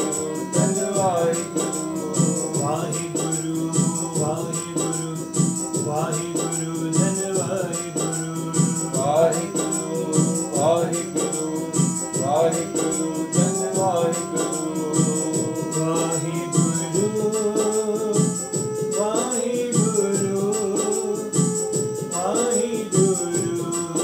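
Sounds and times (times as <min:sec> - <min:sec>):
devotional singing: 0:00.0 - 0:24.0
drone tones: 0:00.0 - 0:24.0
rattling percussion beat: 0:00.0 - 0:24.0.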